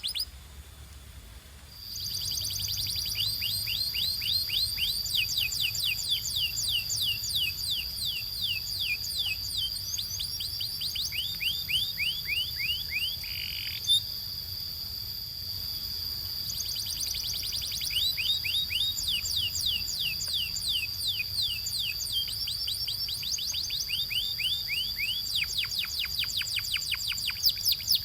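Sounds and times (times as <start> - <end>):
canary singing trill: 0.0 - 0.3, 1.8 - 14.3, 15.6 - 28.0.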